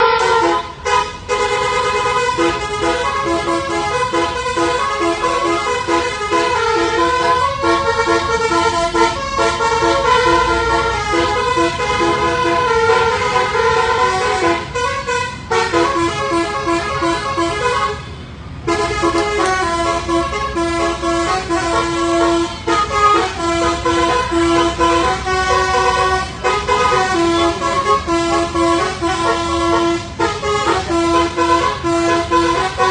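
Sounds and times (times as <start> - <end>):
multi-tone horn playing a tune: 0.0 - 32.9.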